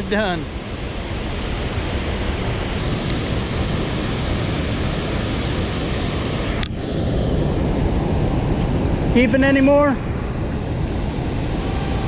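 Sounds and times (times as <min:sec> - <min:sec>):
water rushing from a dam: 0:00.0 - 0:10.0.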